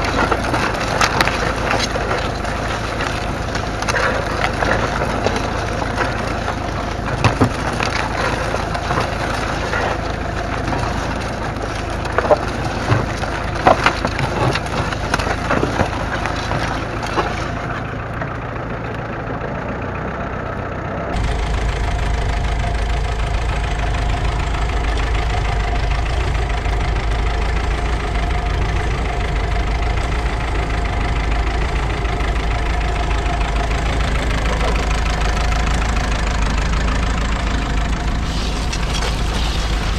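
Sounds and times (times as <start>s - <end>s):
soil crunching: 0.0s - 19.5s, 21.1s - 39.9s
tractor diesel engine running: 0.0s - 39.9s.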